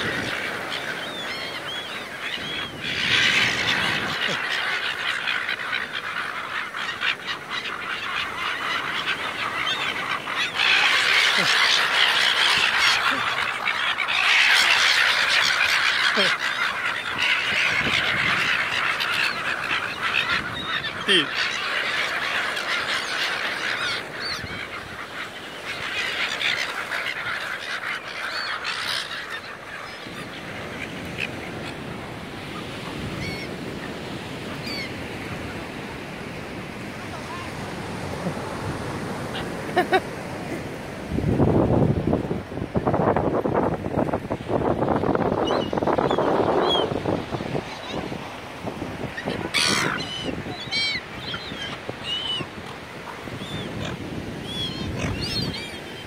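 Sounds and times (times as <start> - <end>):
gulls squawking: 0.0 - 40.7, 43.0 - 56.0.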